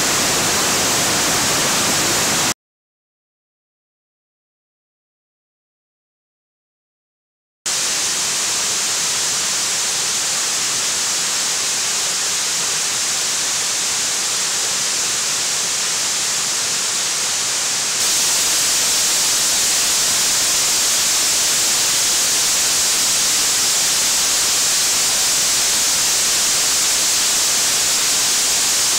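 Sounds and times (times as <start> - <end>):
waterfall roaring over rocks: 0.0 - 2.5, 7.7 - 28.9.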